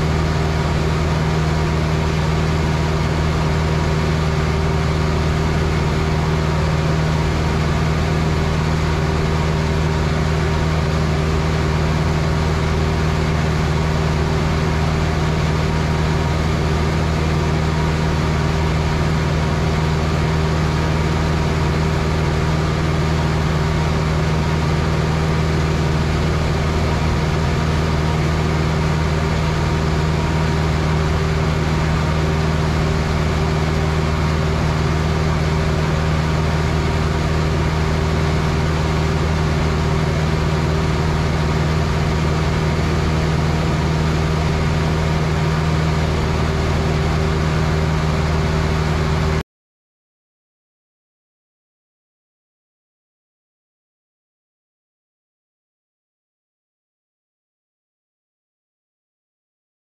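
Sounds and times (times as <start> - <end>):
aircraft engine droning in cabin: 0.0 - 49.4.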